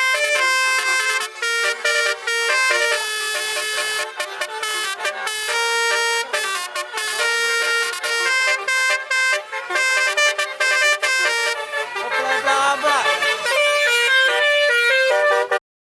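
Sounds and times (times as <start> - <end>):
truck melody horn: 0.0 - 15.6.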